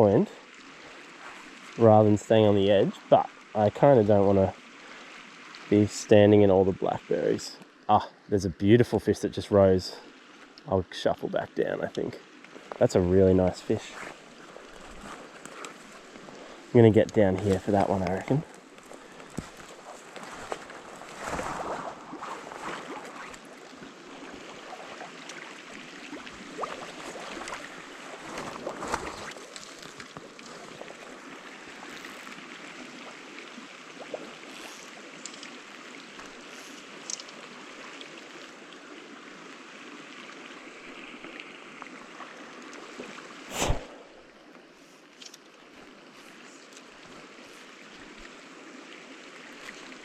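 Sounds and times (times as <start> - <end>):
stream flowing over rocks: 0.0 - 44.8, 45.4 - 50.0.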